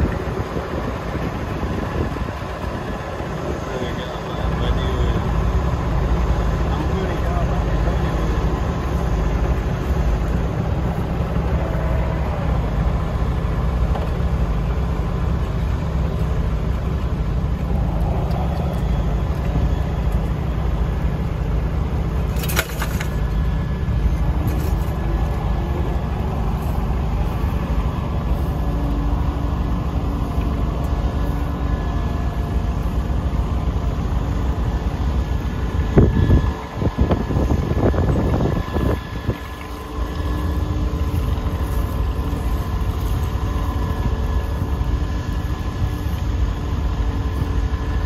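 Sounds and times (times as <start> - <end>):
tractor engine running under load: 0.0 - 48.0.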